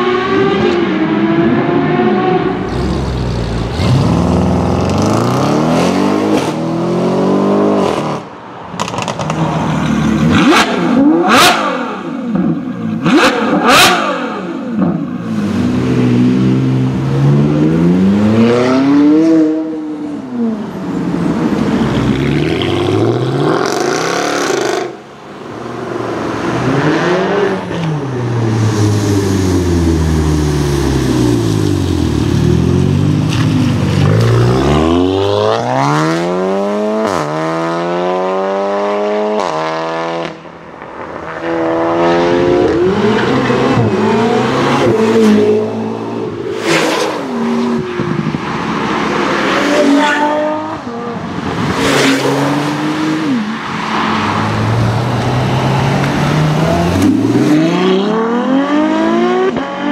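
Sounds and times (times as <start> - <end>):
car engines revving and passing: 0.0 - 59.9.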